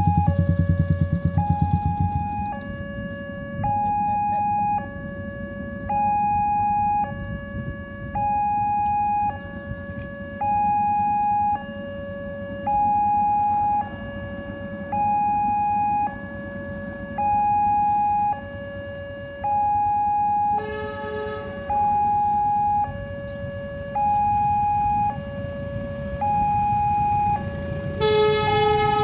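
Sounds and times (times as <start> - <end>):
level crossing two-tone alarm: 0.0 - 29.0.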